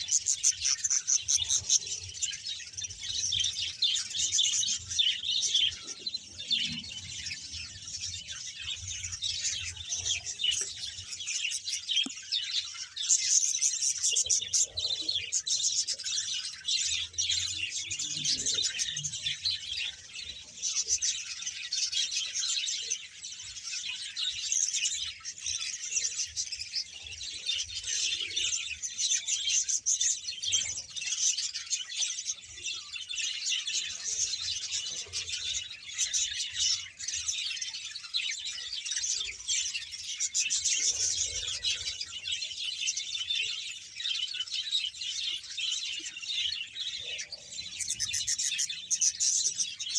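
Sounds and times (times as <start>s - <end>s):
budgerigars chirping and chattering: 0.0s - 49.9s.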